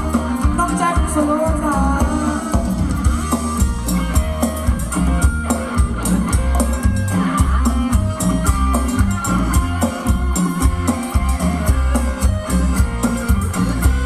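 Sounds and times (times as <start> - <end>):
drum kit steady beat: 0.0 - 14.0
live band dance music: 0.0 - 14.0.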